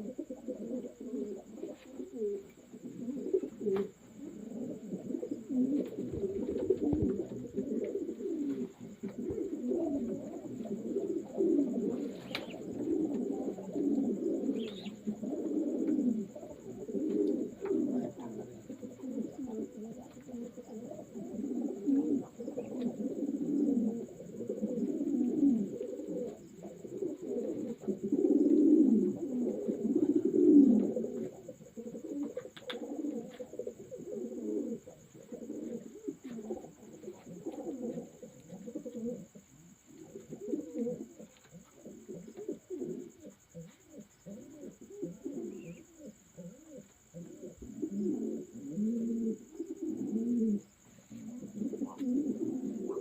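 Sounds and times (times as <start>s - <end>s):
pigeons cooing: 0.0s - 53.0s.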